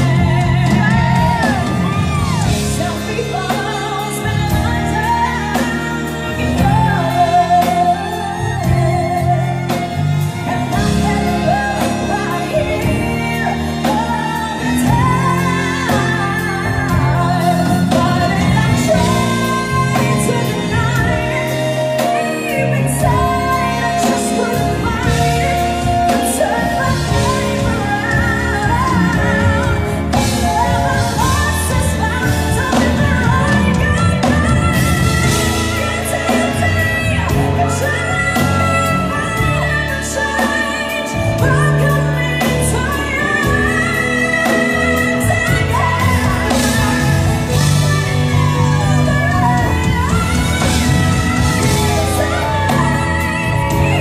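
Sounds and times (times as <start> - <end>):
band with violins drums keyboards: 0.0 - 54.0
woman singing: 0.0 - 54.0.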